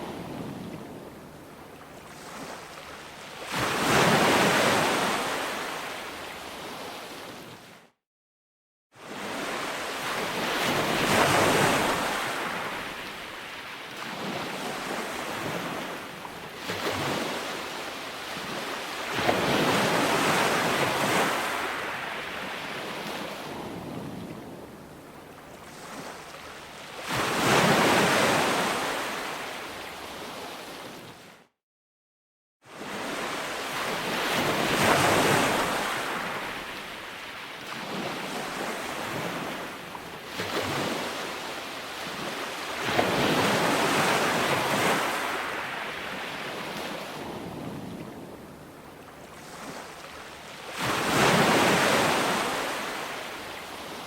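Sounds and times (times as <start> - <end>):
ocean waves washing up beach: 0.0 - 7.5, 9.0 - 31.1, 32.7 - 54.0.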